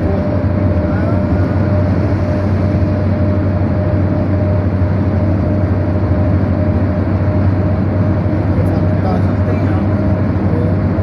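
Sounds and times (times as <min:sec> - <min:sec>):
faint steady whine: 0:00.0 - 0:11.0
low hum: 0:00.0 - 0:11.0
vehicle rumble from inside: 0:00.0 - 0:11.0.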